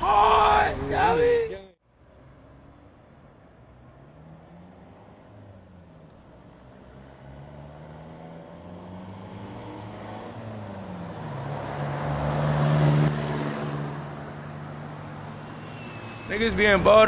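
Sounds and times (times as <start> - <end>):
road noise: 0.0 - 17.0
vehicle engine passing: 2.0 - 17.0.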